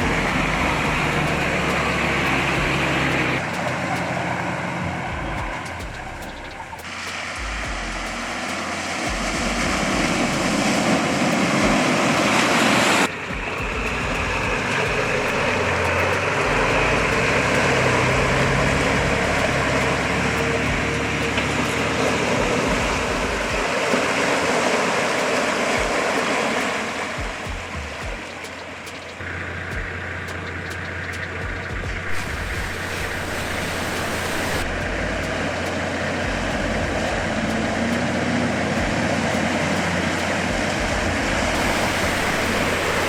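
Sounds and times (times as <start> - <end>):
rush of water: 0.0 - 29.8, 30.6 - 43.0
vehicle engine running: 0.0 - 43.0.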